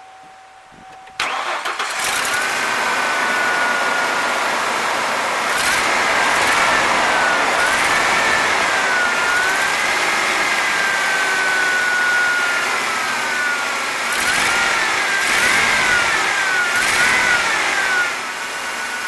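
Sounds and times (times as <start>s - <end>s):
engine idling: 0.1s - 19.0s.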